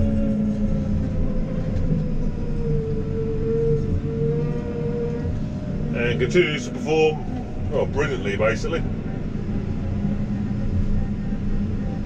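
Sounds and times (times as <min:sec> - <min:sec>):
diesel engine hum: 0:00.0 - 0:12.0
thin engine whine: 0:00.0 - 0:12.0.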